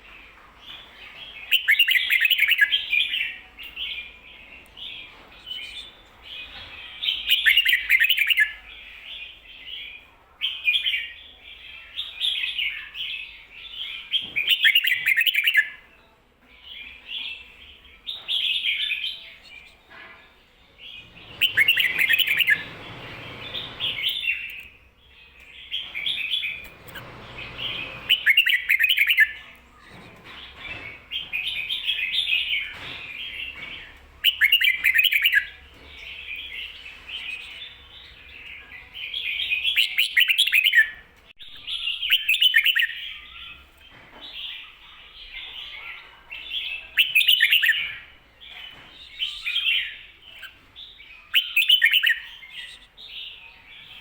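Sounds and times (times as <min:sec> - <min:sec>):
bird singing warbled phrases: 0:00.0 - 0:15.8, 0:20.8 - 0:54.0.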